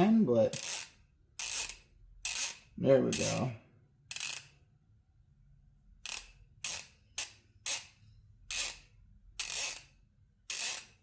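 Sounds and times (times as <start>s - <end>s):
ratchet clicking: 0.5s - 4.6s, 6.0s - 11.0s.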